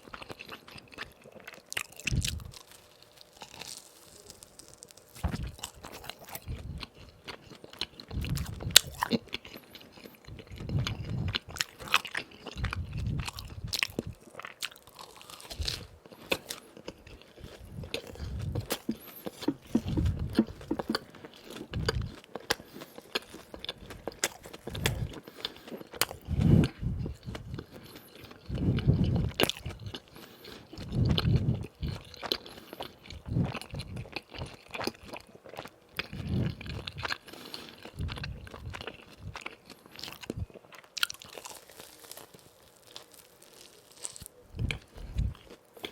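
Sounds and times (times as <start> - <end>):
chewing: 0.0 - 45.9
crunching bites: 0.1 - 45.9.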